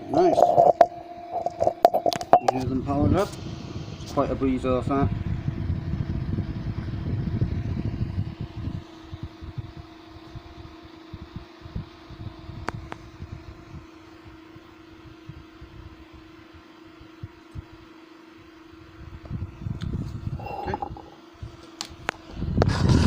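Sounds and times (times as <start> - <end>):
cooling fans humming: 0.0 - 23.0
wind rumble on microphone: 1.4 - 16.4, 18.8 - 23.0.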